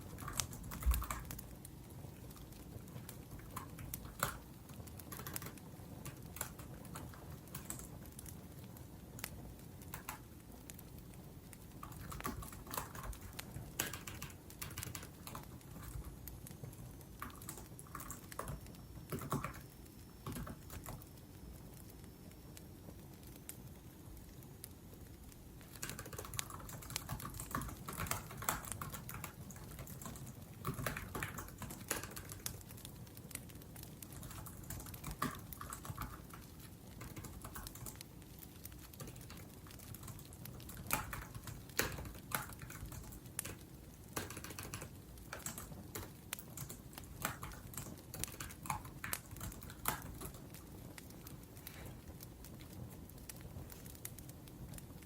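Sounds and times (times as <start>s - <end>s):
laptop keyboard typing: 0.0s - 10.8s, 11.5s - 21.2s, 25.6s - 52.7s
wood fire crackling: 0.0s - 55.0s.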